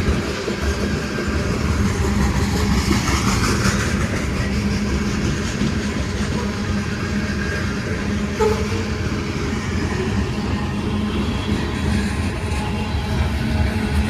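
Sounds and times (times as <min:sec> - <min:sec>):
train locomotive rumble: 0:00.0 - 0:14.0.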